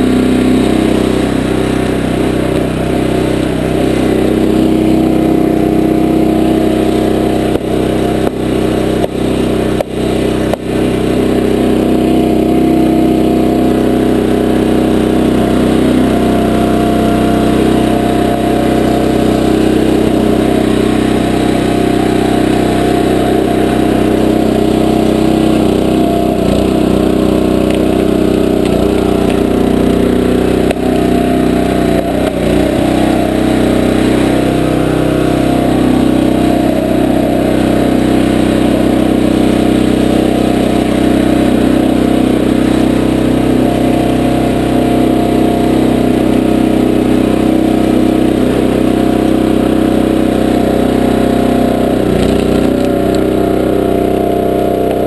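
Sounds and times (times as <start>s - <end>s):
small gasoline engine running: 0.0s - 55.0s.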